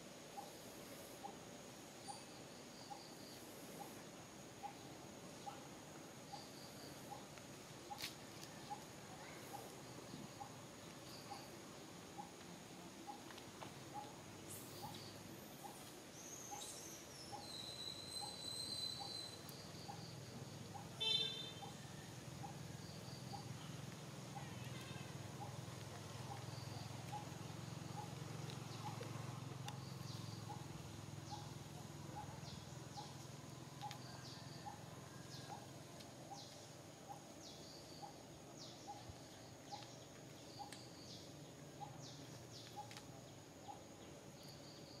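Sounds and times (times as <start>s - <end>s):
bird calls: 4.6s - 45.0s.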